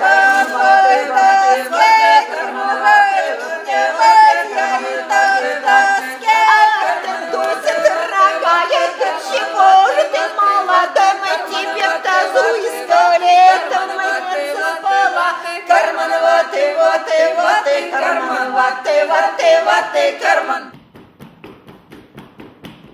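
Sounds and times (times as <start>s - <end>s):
women singing in harmony: 0.0s - 20.7s.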